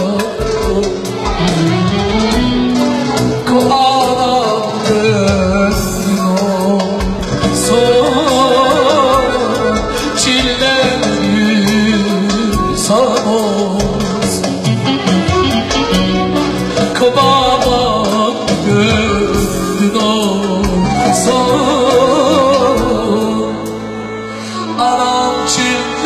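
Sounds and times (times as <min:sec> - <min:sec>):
ornamented melody over beat: 0:00.0 - 0:26.0.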